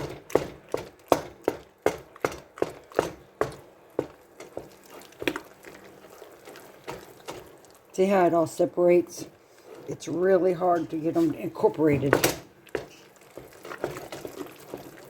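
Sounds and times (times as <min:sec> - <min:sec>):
wooden spoon beating dough: 0:00.0 - 0:08.2, 0:09.7 - 0:15.0.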